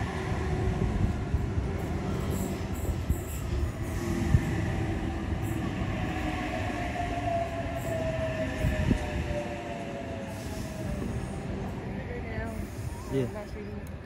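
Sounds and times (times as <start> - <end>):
electric train whine: 0.0 - 14.0
train wheels rumbling on rails: 0.0 - 14.0.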